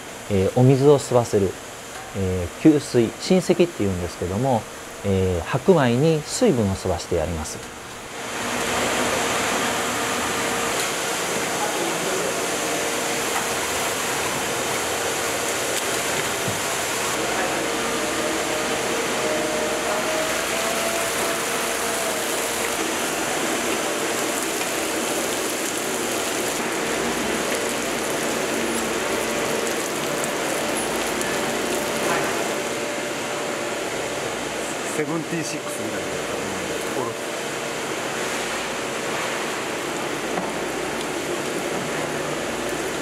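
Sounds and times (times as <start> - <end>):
brewery machinery humming: 0.0 - 43.0.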